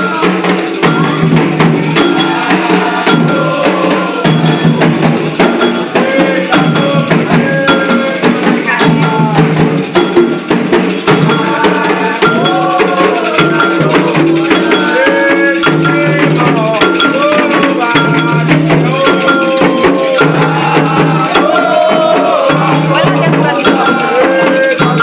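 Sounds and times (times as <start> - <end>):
hand drum and rattle strikes: 0.0 - 25.0
voices chanting: 0.0 - 25.0.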